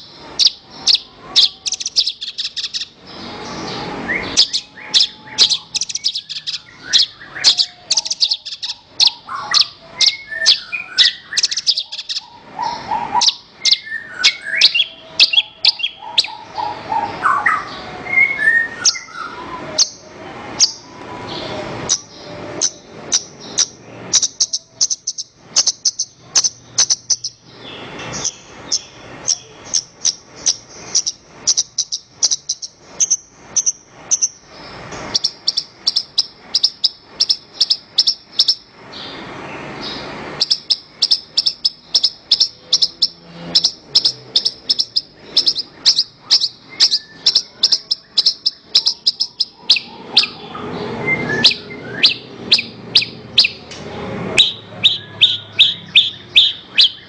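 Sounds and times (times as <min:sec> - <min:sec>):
lark singing high chirps: 0:00.0 - 0:39.2, 0:39.8 - 0:57.0.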